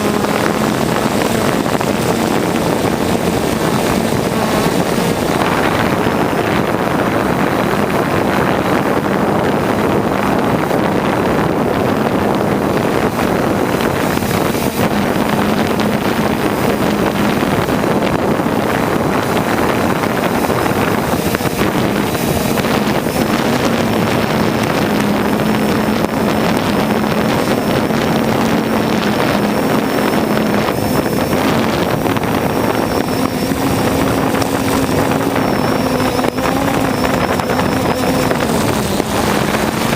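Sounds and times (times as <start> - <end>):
drone propellers humming: 0.0 - 39.9
wind buffeting microphone: 0.0 - 39.9.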